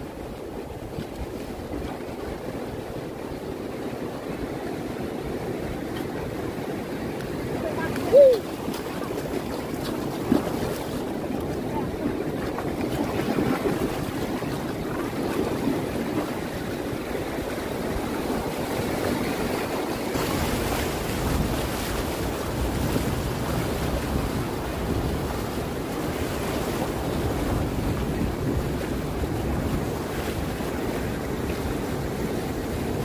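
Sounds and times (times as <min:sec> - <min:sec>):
ocean surf breaking: 0:00.0 - 0:33.0
wind rumbling on microphone: 0:00.0 - 0:33.0.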